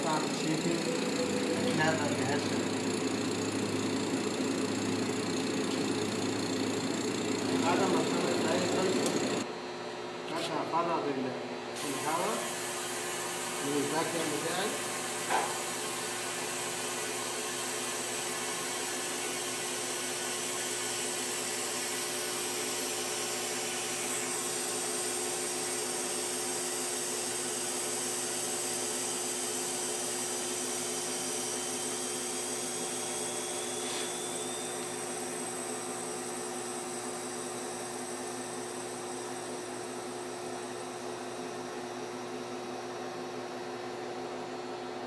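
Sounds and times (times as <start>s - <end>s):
vacuum pump hissing and humming: 0.0s - 45.0s.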